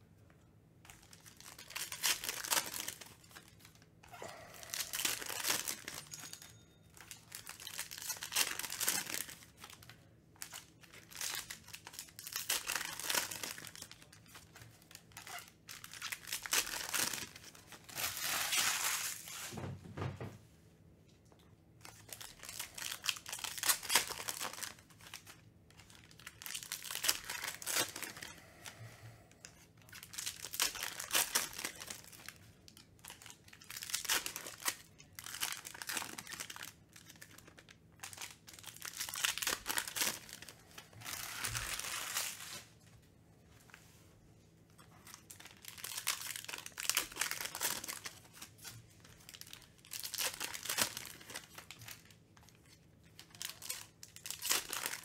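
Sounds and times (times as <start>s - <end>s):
foil packs tearing and crinkling: 1.0s - 6.1s, 7.0s - 19.5s, 21.8s - 28.3s, 29.8s - 42.7s, 45.1s - 55.0s.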